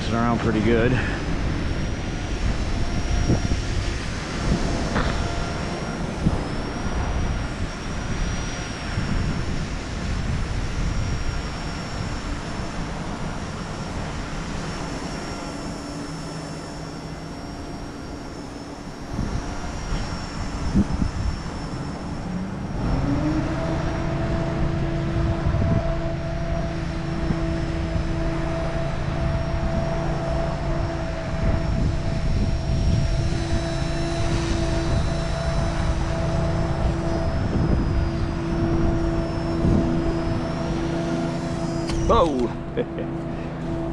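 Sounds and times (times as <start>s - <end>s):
rc helicopter motors whining: 0.0s - 43.9s
wind rumbling on microphone: 0.0s - 43.9s.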